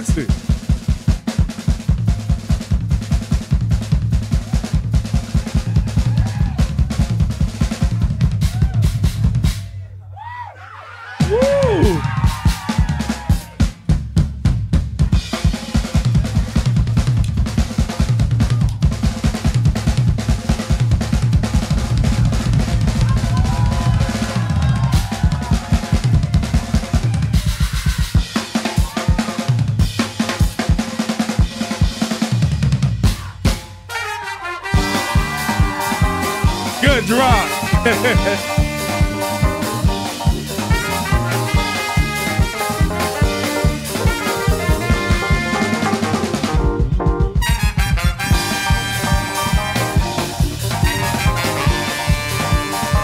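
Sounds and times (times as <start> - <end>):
drum kit solo: 0.0 - 9.7, 11.2 - 33.9, 34.7 - 53.0.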